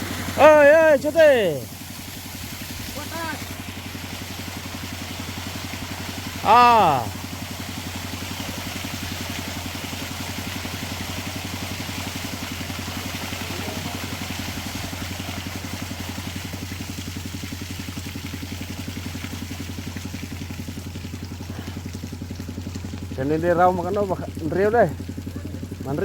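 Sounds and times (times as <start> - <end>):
small engine idling: 0.0 - 26.0.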